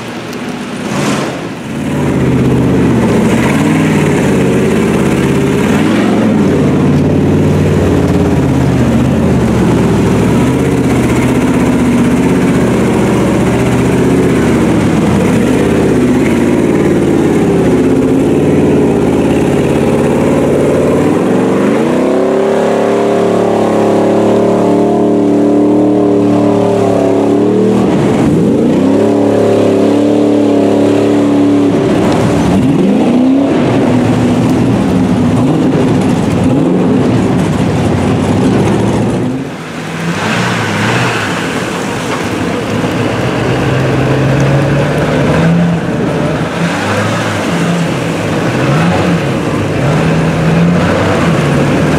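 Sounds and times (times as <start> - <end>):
truck engine running hard: 0.0 - 51.9.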